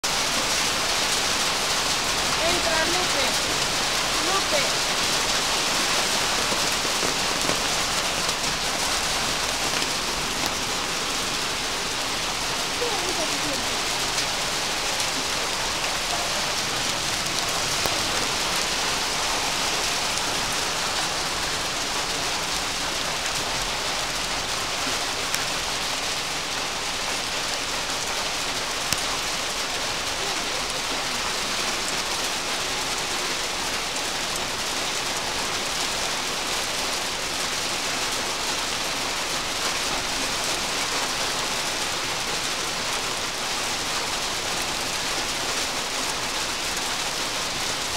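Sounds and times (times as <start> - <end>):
hailstones striking ground: 0.1 - 47.9.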